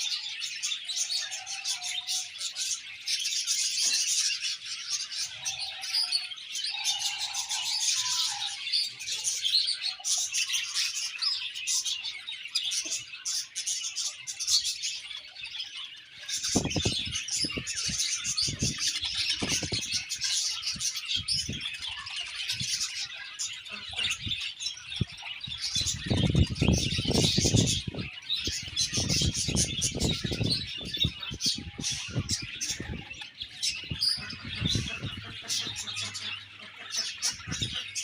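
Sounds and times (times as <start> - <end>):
budgerigars chirping: 0.0 - 38.0.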